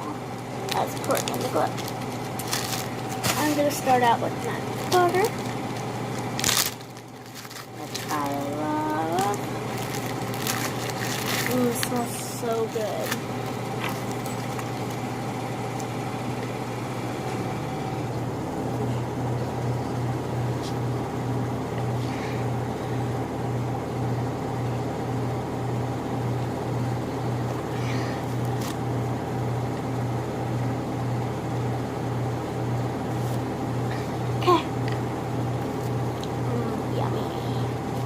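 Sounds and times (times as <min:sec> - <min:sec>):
machine humming and throbbing: 0:00.0 - 0:38.0.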